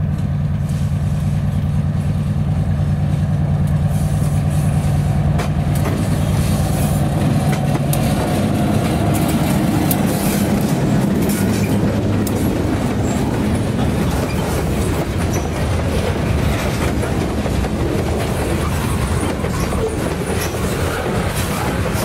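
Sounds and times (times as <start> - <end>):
train wheels clickety-clack: 0.0 - 22.0.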